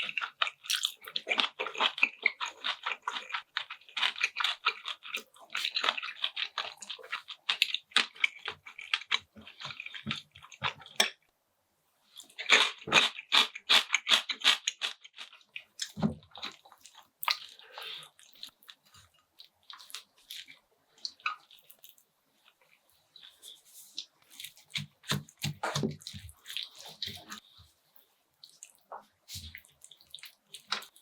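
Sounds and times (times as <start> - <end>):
wet chewing and mouth smacking: 0.0 - 11.2, 12.2 - 27.5, 28.4 - 31.0.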